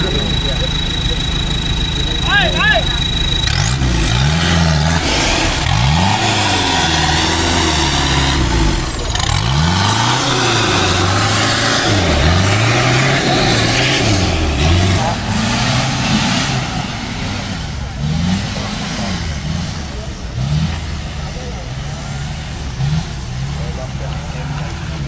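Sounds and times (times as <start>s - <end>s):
off-road engine revving: 0.0s - 25.0s.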